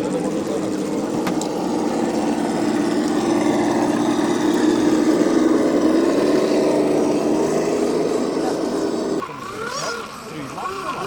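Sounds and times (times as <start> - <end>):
motor humming: 0.0 - 10.2.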